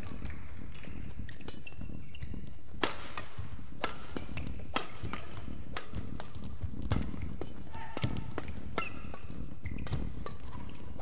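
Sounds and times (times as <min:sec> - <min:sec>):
rackets hitting shuttlecock: 0:00.0 - 0:01.7, 0:02.7 - 0:11.0
low hall hum: 0:00.0 - 0:11.0.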